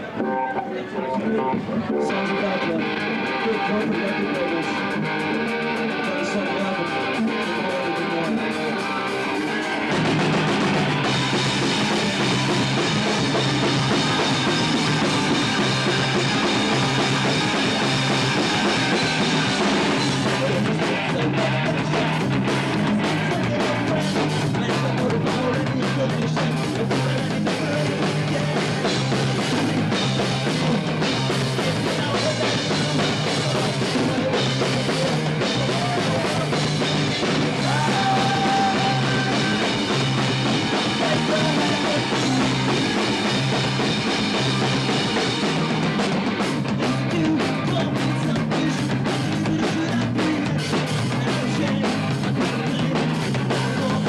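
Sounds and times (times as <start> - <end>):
bass guitar: 0.0 - 54.0
drums: 0.0 - 54.0
punk rock band playing: 0.0 - 54.0
strummed electric guitar: 0.0 - 54.0.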